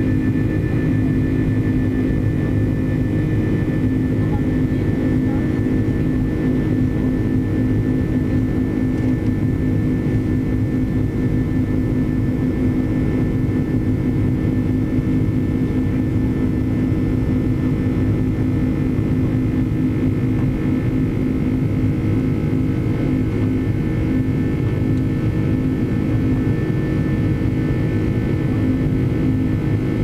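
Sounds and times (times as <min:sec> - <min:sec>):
airliner engine drone in cabin: 0:00.0 - 0:30.0.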